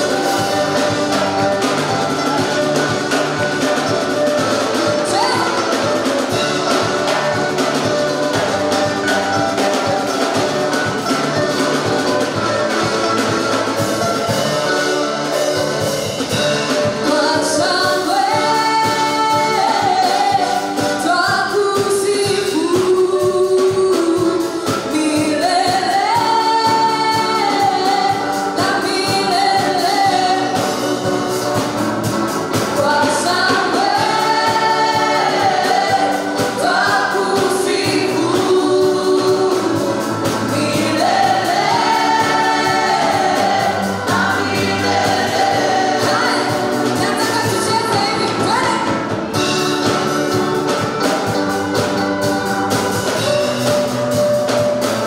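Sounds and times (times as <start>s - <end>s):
band with drums: 0.0s - 55.0s
gospel choir singing: 0.0s - 55.0s.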